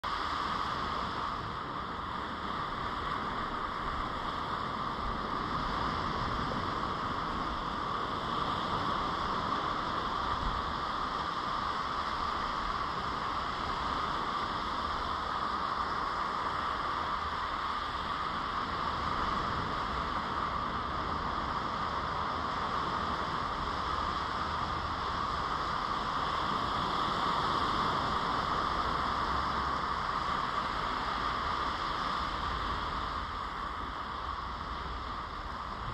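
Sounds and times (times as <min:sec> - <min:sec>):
steady rushing hiss: 0:00.0 - 0:35.9.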